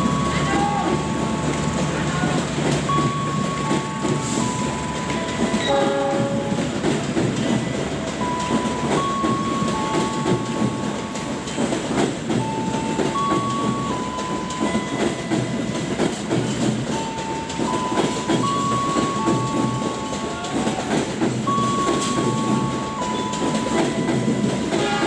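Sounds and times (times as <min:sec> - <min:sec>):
train carriages rumbling: 0:00.0 - 0:25.0
wheels clicking over rail joints: 0:00.0 - 0:25.0.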